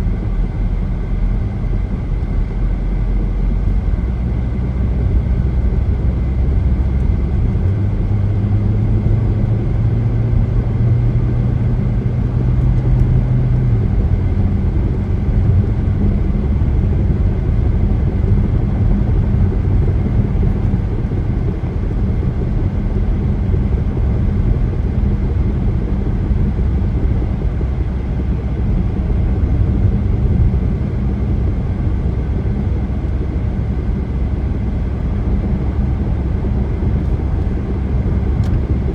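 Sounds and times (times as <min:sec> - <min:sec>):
car tyres and engine rumble: 0:00.0 - 0:38.9
low droning hum: 0:00.0 - 0:38.9.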